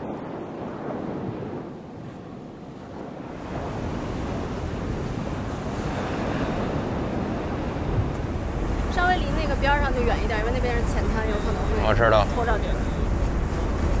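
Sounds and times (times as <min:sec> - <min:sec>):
choppy sea water: 0:00.0 - 0:14.0
wind buffeting microphone: 0:00.0 - 0:14.0.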